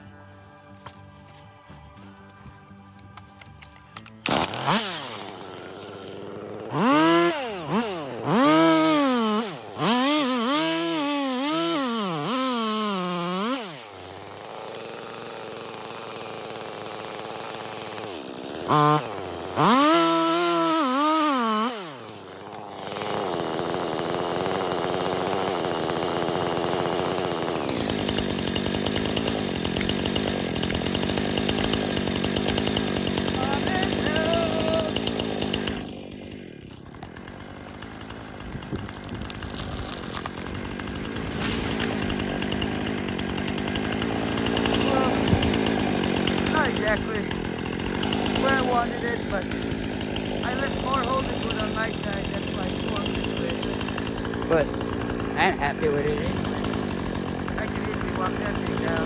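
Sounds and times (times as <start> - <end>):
chainsaw cutting wood: 0.0 - 59.0
chainsaw revving: 4.0 - 59.0.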